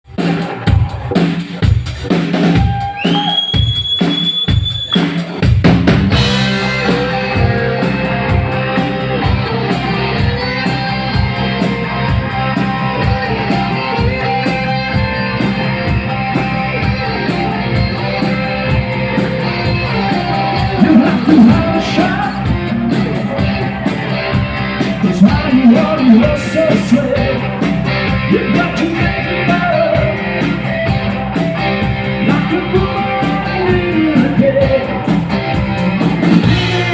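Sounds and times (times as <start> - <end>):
drum kit: 0.0 - 36.9
rock band playing live: 0.0 - 36.9
electric guitar: 0.1 - 36.9.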